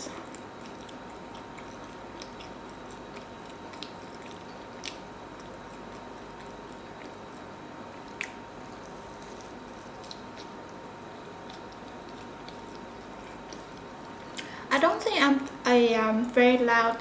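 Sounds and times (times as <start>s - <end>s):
close chewing: 0.0s - 14.5s
faint high hum: 0.0s - 17.0s.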